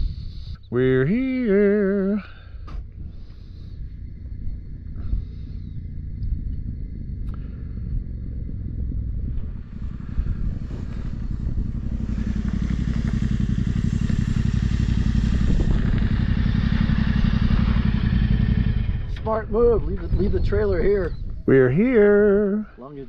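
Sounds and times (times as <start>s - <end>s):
motorcycle engines running: 0.0s - 22.7s.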